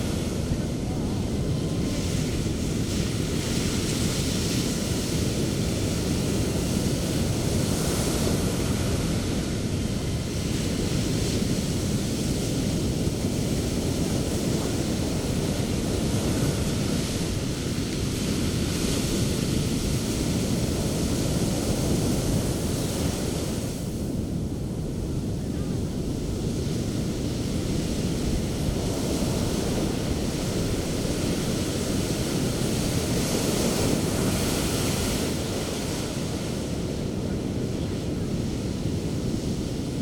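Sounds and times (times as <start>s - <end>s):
surf breaking on a beach: 0.0s - 40.0s.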